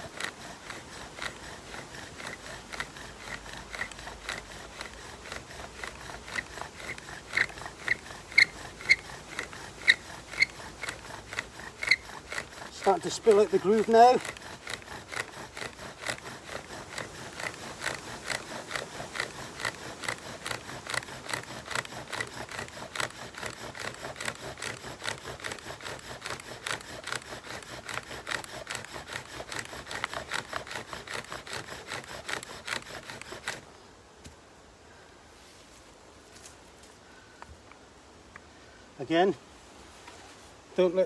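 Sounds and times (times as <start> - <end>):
bow drill grinding and squeaking: 0.0 - 33.7.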